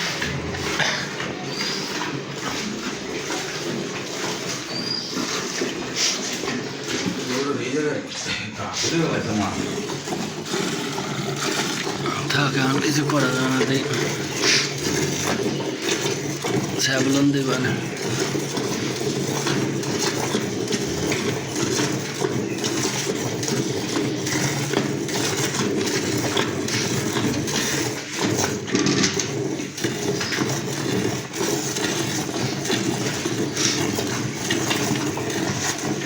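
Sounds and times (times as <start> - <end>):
milk squirting into metal pail: 0.0 - 36.0.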